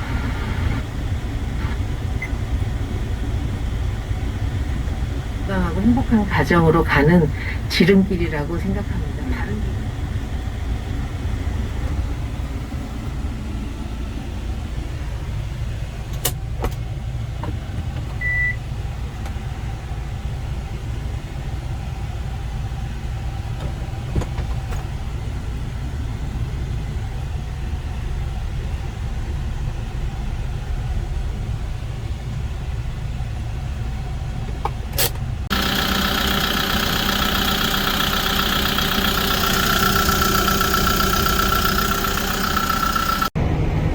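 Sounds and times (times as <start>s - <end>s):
truck engine idling: 0.0s - 43.4s.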